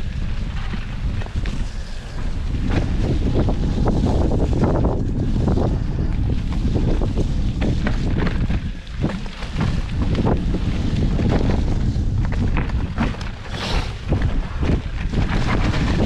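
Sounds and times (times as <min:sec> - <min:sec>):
bike rattling and knocking: 0:00.0 - 0:16.0
steady low rumble: 0:00.0 - 0:16.0
wind buffeting microphone: 0:00.0 - 0:16.0.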